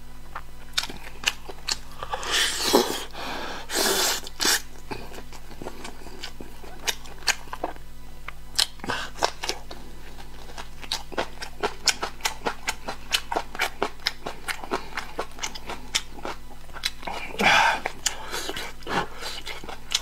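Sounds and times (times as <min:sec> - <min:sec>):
wet chewing mouth sounds: 0:00.3 - 0:20.0.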